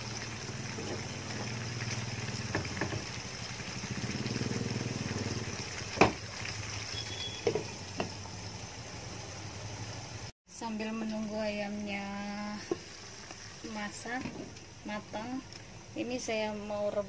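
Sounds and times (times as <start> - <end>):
chicken cooking in a pot: 0.0 - 17.0.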